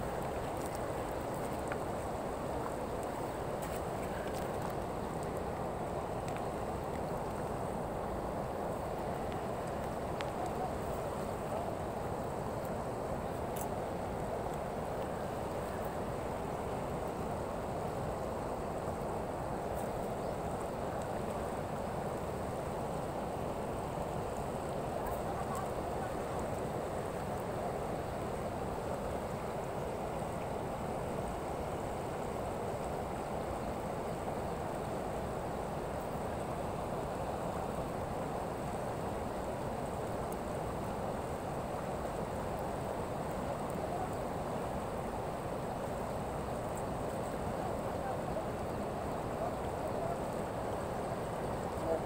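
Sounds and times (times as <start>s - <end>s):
river water rushing over weir: 0.0s - 52.0s.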